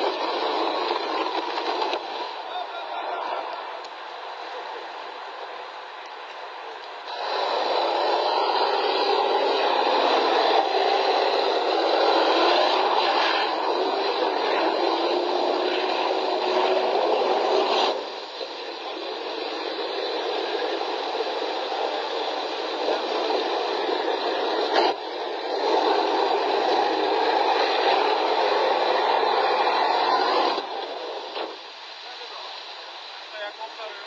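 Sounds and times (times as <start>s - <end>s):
tank engine: 0.0s - 33.1s.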